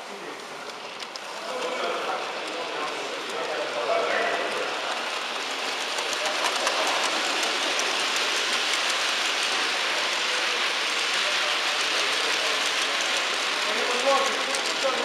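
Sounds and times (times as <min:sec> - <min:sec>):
model train wheels rattling: 0:00.4 - 0:15.0.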